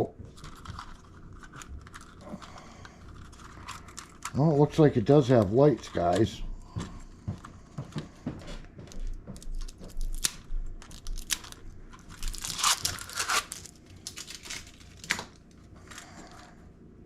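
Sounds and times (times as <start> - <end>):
packaging crinkling: 0.0 - 6.4, 9.0 - 16.6.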